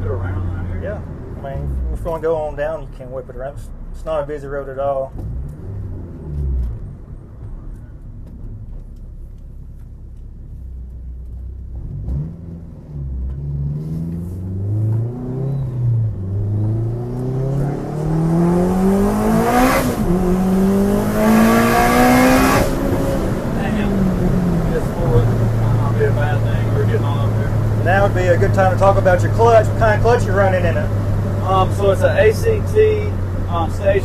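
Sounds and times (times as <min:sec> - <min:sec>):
car engine accelerating: 0:00.0 - 0:34.0
gear change: 0:00.0 - 0:34.0.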